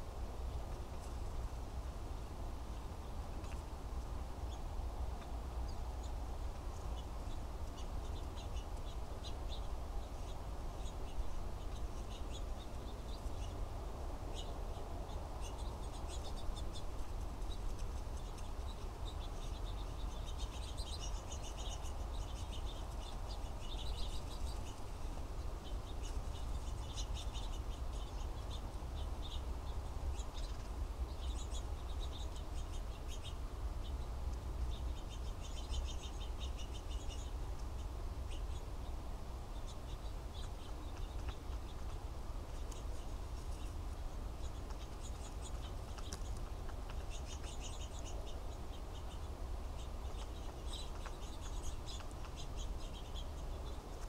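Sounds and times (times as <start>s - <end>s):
small birds chirping and trilling: 0.0s - 54.0s.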